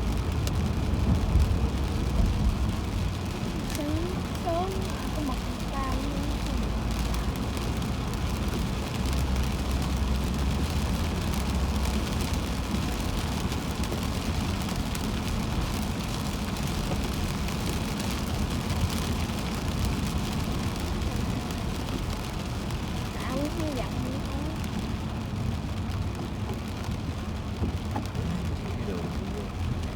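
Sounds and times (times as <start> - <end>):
fine rain patter: 0.0 - 29.9
hiss of water and rain: 0.0 - 29.9
tyre and engine rumble: 0.0 - 29.9.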